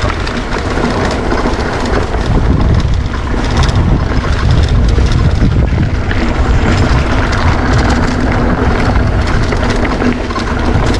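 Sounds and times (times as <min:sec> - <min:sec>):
mountain bike rattling: 0:00.0 - 0:10.9
tyres on loose ground: 0:00.0 - 0:10.9
wind rumble on microphone: 0:00.0 - 0:10.9.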